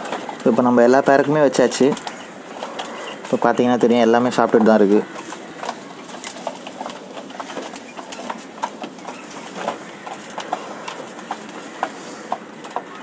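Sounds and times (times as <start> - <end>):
beaks tapping on trays: 0.0 - 13.0.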